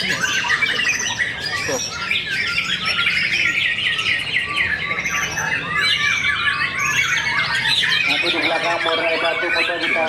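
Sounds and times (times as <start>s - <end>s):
songbirds chirping and trilling: 0.0s - 10.0s.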